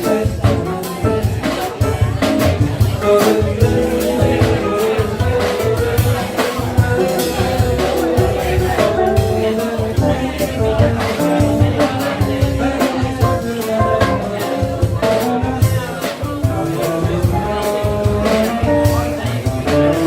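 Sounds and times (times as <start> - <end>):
band music: 0.0 - 20.0
drums and bass beat: 0.0 - 20.0.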